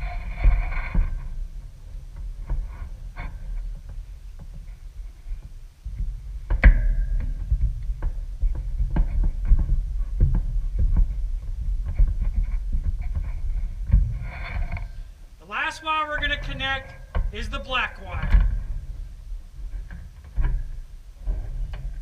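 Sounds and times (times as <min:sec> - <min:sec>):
microphone handling rumble: 0:00.0 - 0:22.0.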